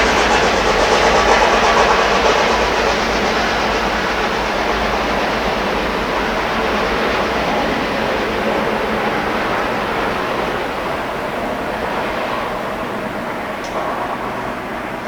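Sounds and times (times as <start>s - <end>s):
steam train rushing past: 0.0s - 15.0s.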